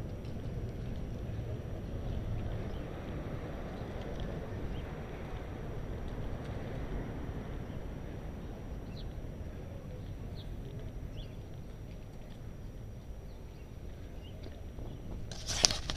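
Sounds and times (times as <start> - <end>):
wind on microphone: 0.0 - 11.8, 12.6 - 15.9
tyres on pavement: 0.0 - 15.9.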